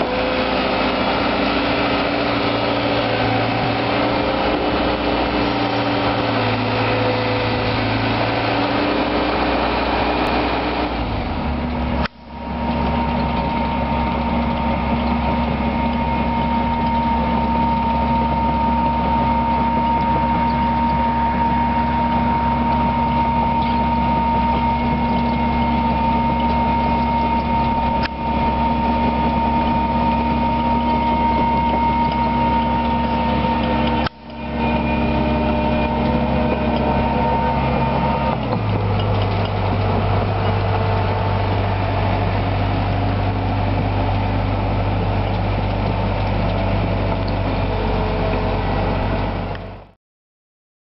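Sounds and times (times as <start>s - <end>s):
steady high whine: 0.0s - 49.9s
excavator diesel engine running: 0.0s - 50.0s.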